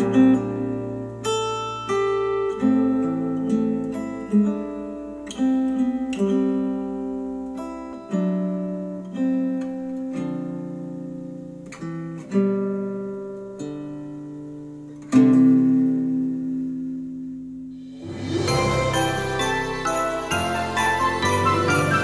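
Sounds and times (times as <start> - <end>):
acoustic guitar plucked chords: 0.0 - 22.0.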